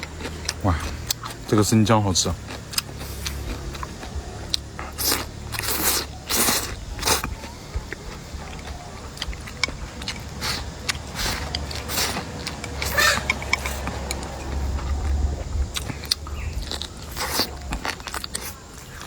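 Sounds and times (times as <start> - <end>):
crunchy bites and chewing: 0.0 - 19.0.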